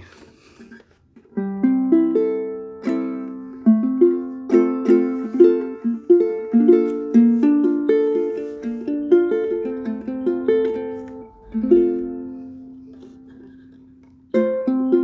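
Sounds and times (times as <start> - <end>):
fingerpicked ukulele: 0.0 - 15.0.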